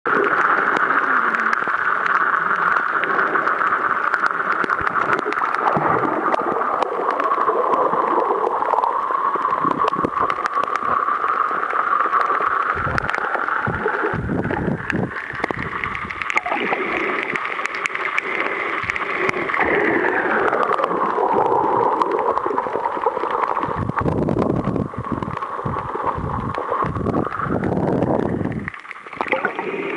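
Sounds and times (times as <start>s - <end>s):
underwater gurgling rush: 0.1s - 29.9s.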